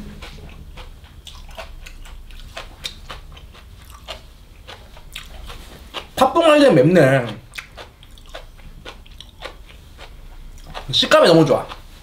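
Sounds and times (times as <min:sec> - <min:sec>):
close chewing with crunches: 0:00.0 - 0:12.0.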